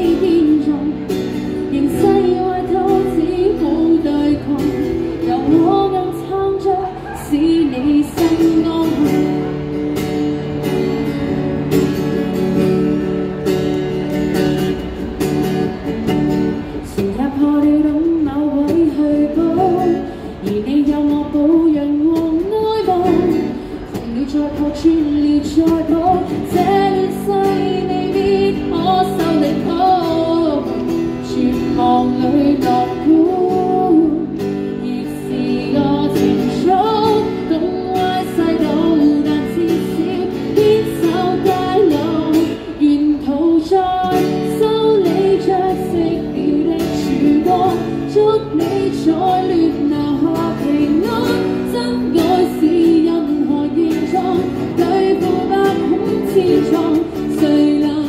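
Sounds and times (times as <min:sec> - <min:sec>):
woman singing into microphone: 0:00.0 - 0:09.8, 0:16.4 - 0:58.0
acoustic guitar strumming: 0:00.0 - 0:58.0.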